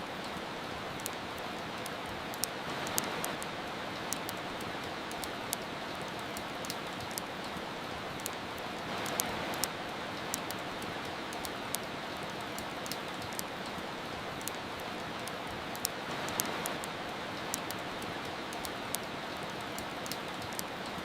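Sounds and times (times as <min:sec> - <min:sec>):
steady rain hiss: 0:00.0 - 0:21.0
wood fire crackling: 0:00.0 - 0:21.0.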